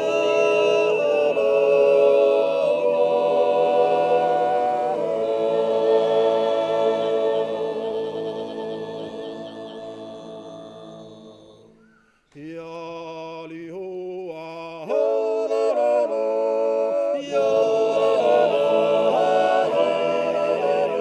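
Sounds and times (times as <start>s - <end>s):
men's choir yodelling a cappella: 0.0s - 11.7s, 12.5s - 21.0s.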